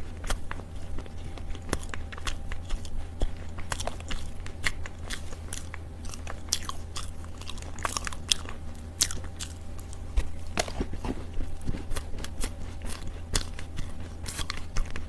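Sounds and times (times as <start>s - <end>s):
dry earth being chewed: 0.0s - 15.0s
steady low hum: 0.0s - 15.0s.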